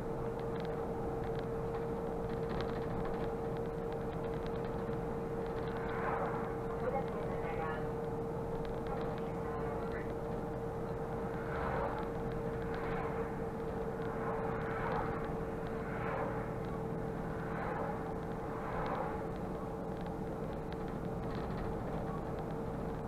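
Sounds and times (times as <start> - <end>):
bus engine and road noise: 0.0 - 23.0
rushing noise: 0.0 - 23.0
steady whine: 0.0 - 23.0.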